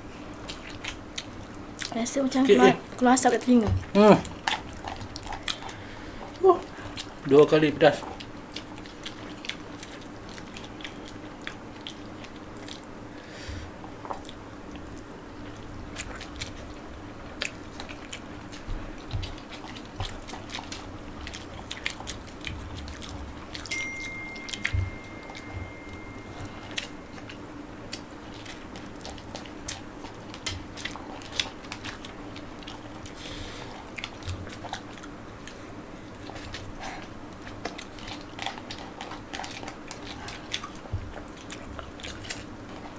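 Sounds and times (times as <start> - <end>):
people chewing and biting: 0.0 - 42.9
steady low hum: 0.0 - 42.9.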